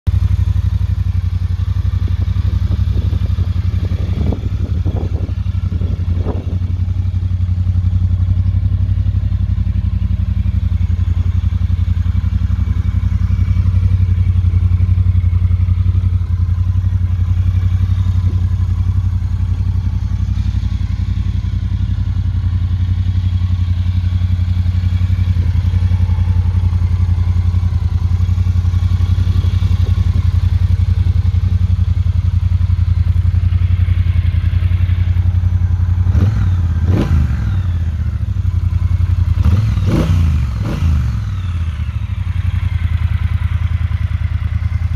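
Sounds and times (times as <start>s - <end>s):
motorcycle engine idling: 0.1s - 44.9s.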